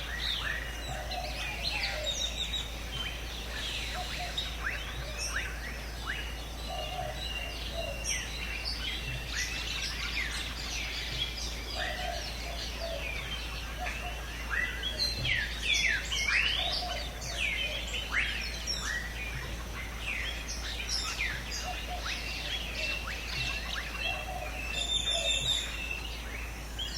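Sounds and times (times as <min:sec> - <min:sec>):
birds calling with whistled notes: 0:00.0 - 0:26.9.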